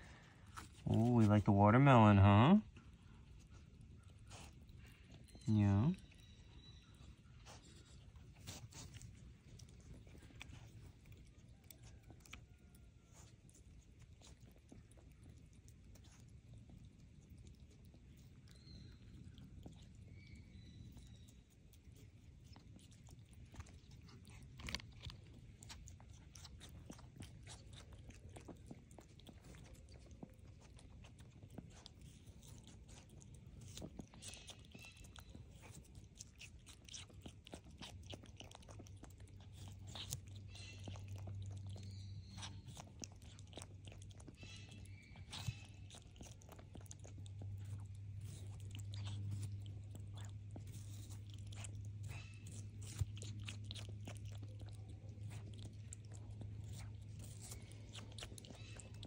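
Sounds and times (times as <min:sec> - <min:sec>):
animal chewing watermelon: 0:00.0 - 0:59.0.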